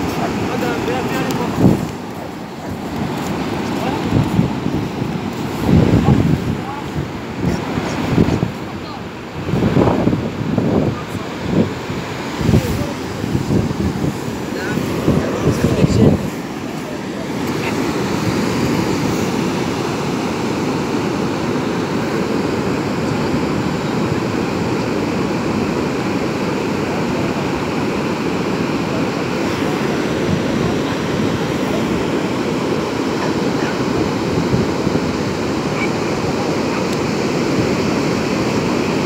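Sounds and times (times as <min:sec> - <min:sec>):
small waves breaking on sand: 0:00.0 - 0:39.0.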